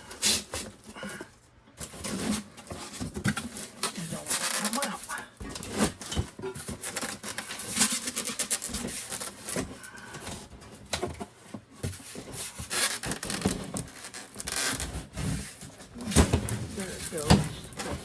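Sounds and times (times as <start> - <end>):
packaging rustling and scraping: 0.1 - 18.0.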